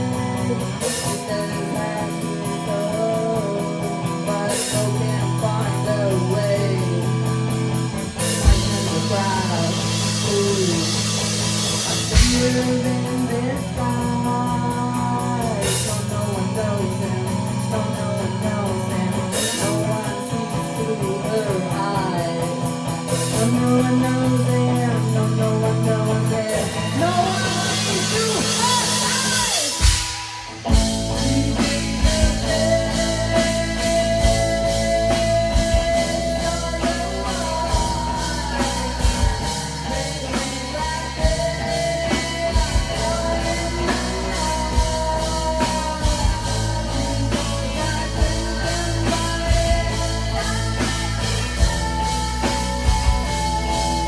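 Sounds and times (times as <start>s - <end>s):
drum kit: 0.0s - 54.0s
electric guitar: 0.0s - 54.0s
person singing: 0.0s - 54.0s.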